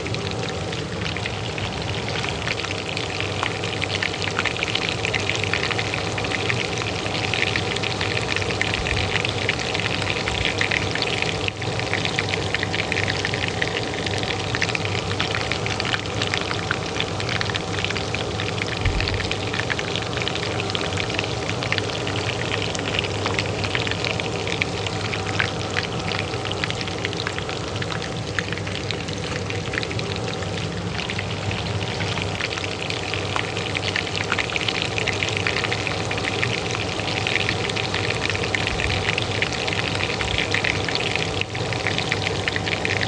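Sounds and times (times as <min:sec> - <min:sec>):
oil sizzling in a pan: 0:00.0 - 0:43.0
range hood fan humming: 0:00.0 - 0:43.0.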